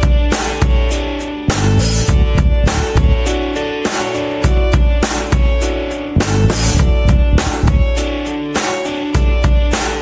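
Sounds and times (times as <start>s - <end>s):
bass: 0.0s - 10.0s
steady drum beat: 0.0s - 10.0s.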